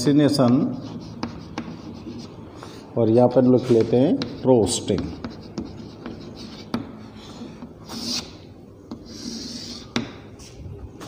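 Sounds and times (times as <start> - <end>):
chalk tapping on blackboard: 0.3 - 2.4, 3.1 - 10.2
chalk scraping across blackboard: 0.3 - 10.6.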